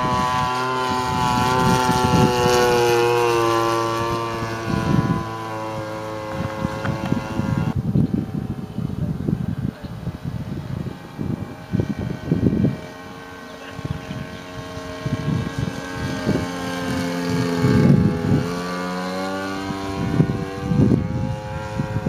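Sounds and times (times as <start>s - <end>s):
model plane engine passing: 0.0s - 22.0s
wind buffeting microphone: 0.0s - 22.0s.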